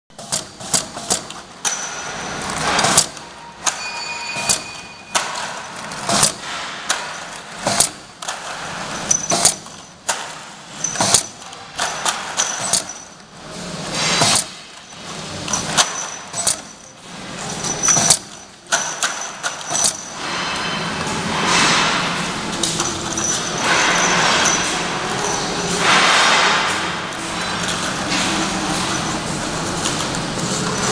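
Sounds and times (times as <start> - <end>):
labeling machine clicks and clatters: 0.1 - 30.9.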